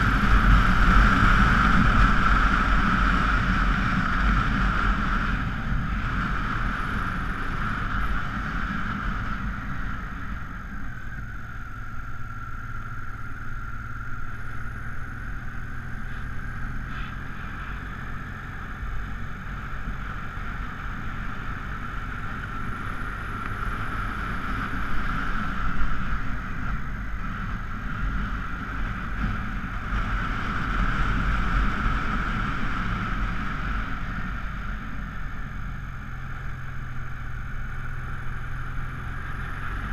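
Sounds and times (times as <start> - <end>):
motorcycle engine running under load: 0.0 - 39.9
wind rushing over microphone: 0.0 - 39.9.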